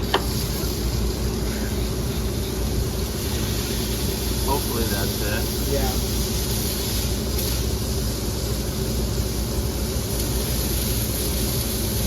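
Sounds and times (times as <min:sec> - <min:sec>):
machine humming with hiss: 0:00.0 - 0:12.0.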